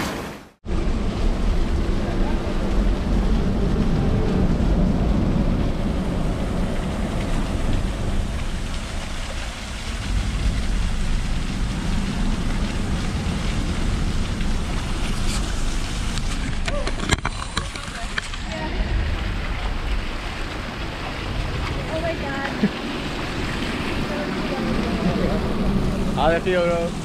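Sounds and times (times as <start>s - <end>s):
waterfall splashing into pool: 0.0s - 27.0s
wind on microphone: 0.7s - 27.0s.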